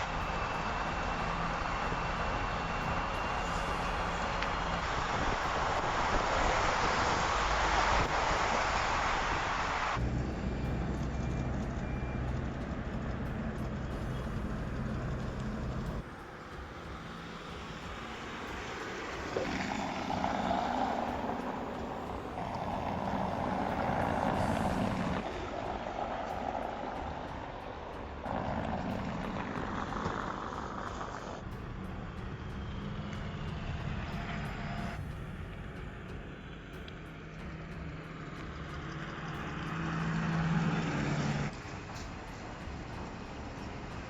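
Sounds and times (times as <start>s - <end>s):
low steady hum: 0.0s - 44.0s
tyre and road noise: 0.0s - 44.0s.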